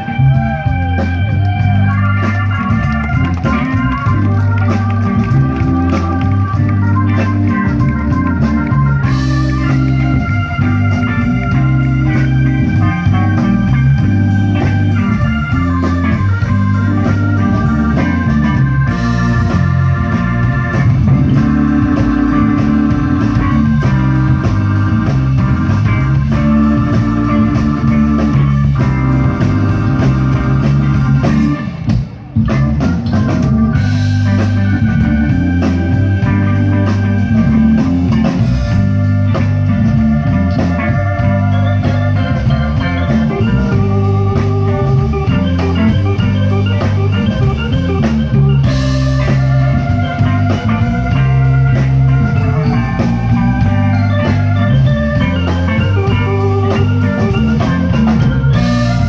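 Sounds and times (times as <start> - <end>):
blues band playing: 0.0 - 59.0
organ chords and lines: 0.0 - 59.0.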